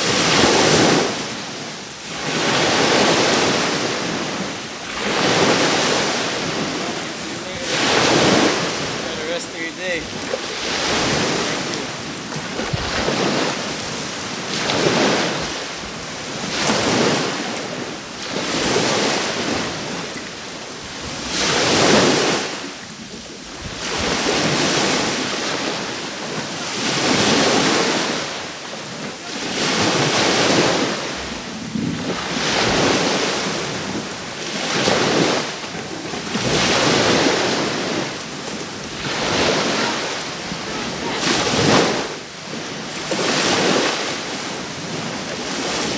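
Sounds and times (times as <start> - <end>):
sea waves breaking on beach: 0.0 - 45.9.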